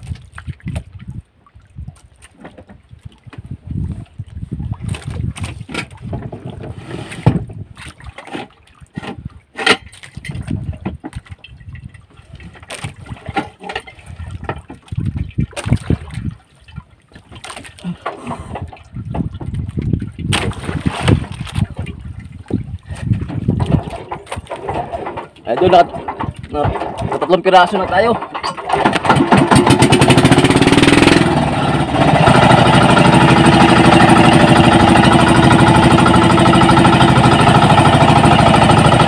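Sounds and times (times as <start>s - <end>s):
water sloshing and splashing: 0.0s - 39.0s.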